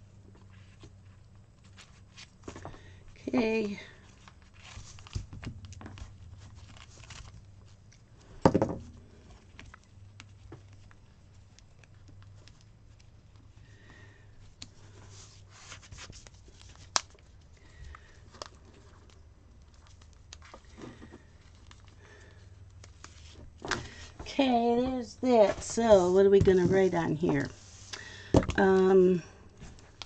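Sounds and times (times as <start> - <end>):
stickers peeling and rustling: 0.3 - 8.4, 9.0 - 29.0.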